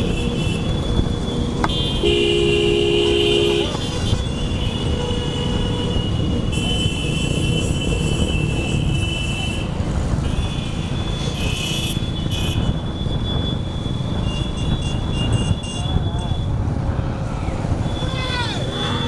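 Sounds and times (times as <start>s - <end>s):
vehicle road and wind rumble: 0.0s - 19.0s.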